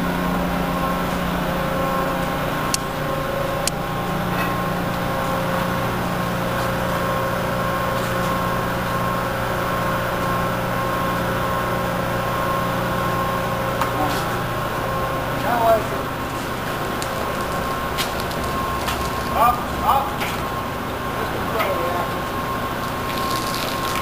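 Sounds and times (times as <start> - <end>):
forklift engine running: 0.0 - 24.0.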